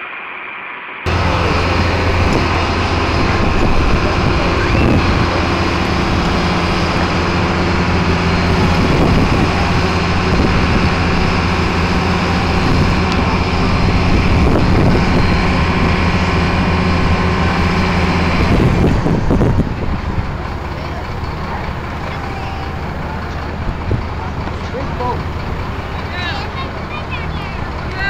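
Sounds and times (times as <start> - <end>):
diesel engine running under load: 1.1 - 28.0.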